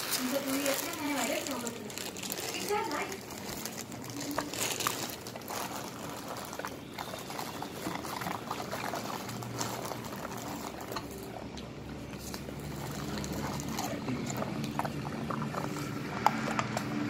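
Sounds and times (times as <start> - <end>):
puppies licking and mouthing: 0.0 - 17.0.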